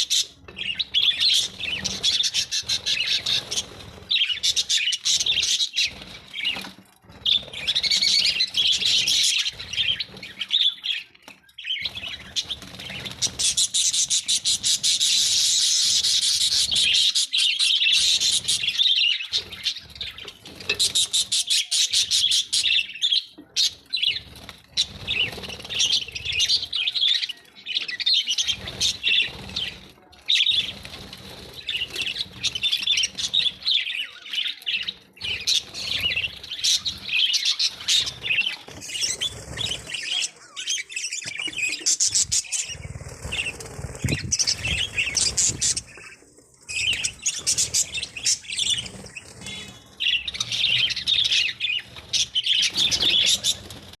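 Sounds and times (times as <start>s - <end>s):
parrots chirping and chattering: 0.0s - 54.0s.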